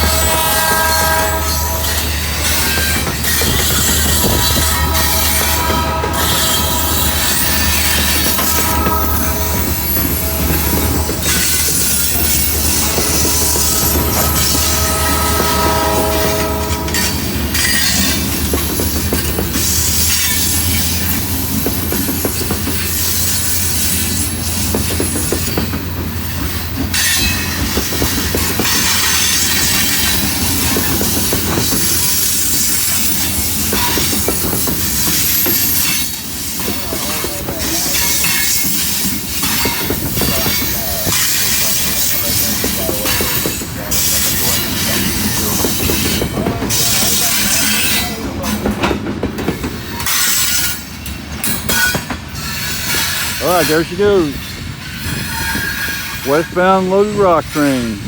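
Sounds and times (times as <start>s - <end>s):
wheels clicking over rail joints: 0.0s - 56.8s
freight train rolling past: 0.0s - 58.0s.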